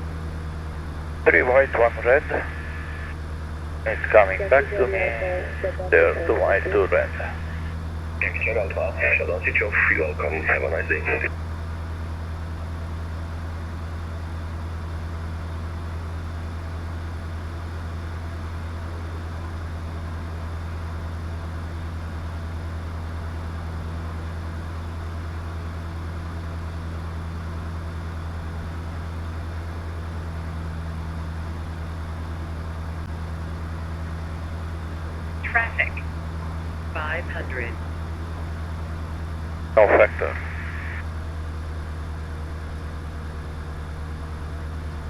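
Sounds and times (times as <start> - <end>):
light aircraft engine droning: 0.0 - 45.0.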